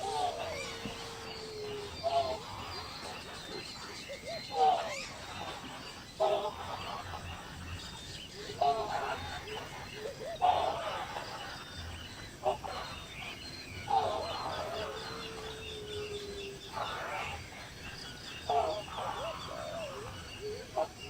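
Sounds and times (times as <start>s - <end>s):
faint high chirping: 0.0s - 21.0s.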